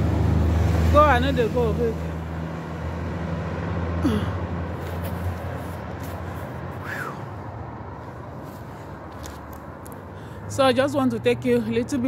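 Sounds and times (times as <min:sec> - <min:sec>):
road noise: 0:00.0 - 0:12.0
vehicle engine hum passing: 0:00.0 - 0:12.0.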